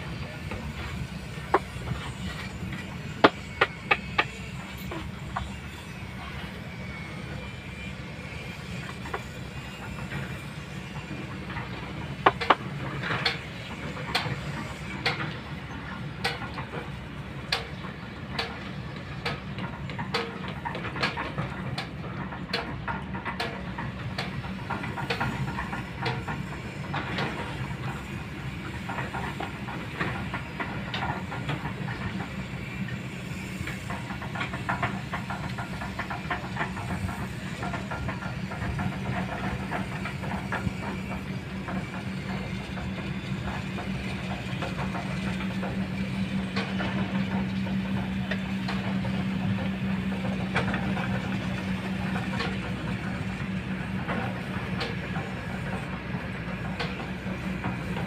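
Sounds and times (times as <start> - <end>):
excavator diesel engine drone: 0.0 - 58.0.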